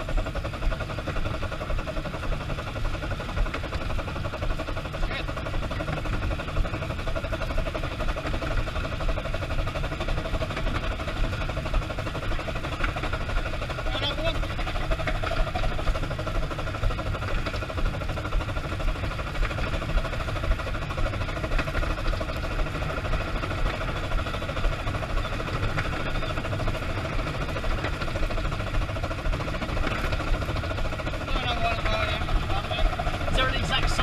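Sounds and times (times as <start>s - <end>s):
steam locomotive rumble: 0.0s - 34.0s.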